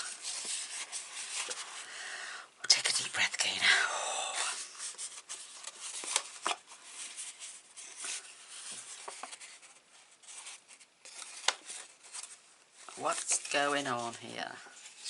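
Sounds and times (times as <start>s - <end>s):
paper crinkling: 0.0s - 1.9s, 4.4s - 15.0s
paper rustling: 0.0s - 1.9s, 4.4s - 15.0s.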